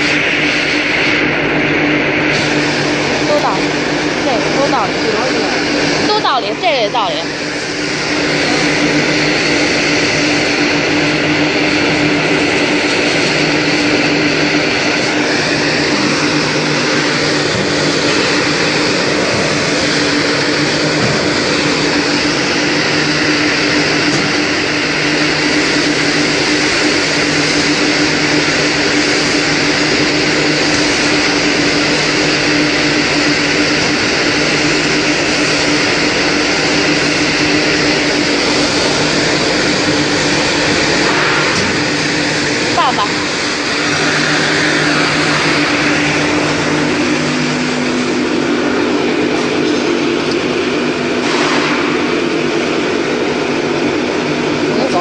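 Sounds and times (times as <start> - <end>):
grinding machine whirring: 0.0 - 55.0.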